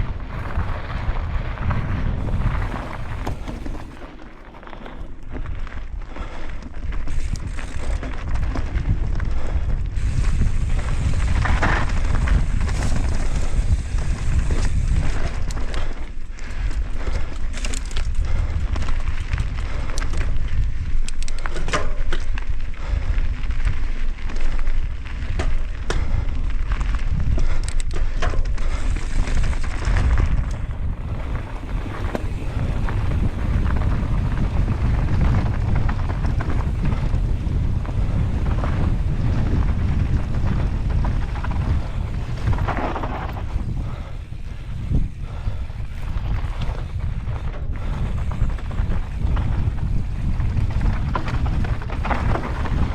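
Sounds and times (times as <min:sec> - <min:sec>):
bike clattering over rocky trail: 0:00.0 - 0:05.9, 0:06.5 - 0:22.6, 0:23.7 - 0:52.9
wind rumble on microphone: 0:00.0 - 0:52.9.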